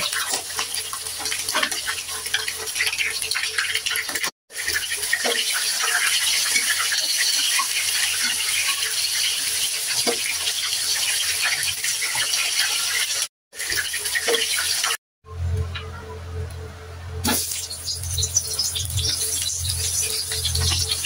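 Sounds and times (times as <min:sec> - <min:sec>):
chicken sizzling in hot oil: 0:00.0 - 0:15.0, 0:17.2 - 0:21.0.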